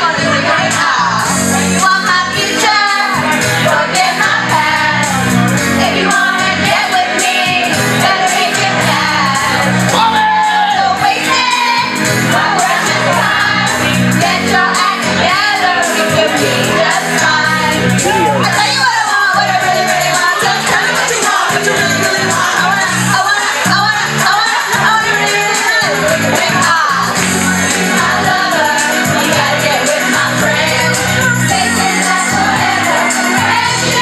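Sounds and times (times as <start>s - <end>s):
karaoke backing track with drums: 0.0s - 34.0s
women singing into microphones: 0.0s - 34.0s.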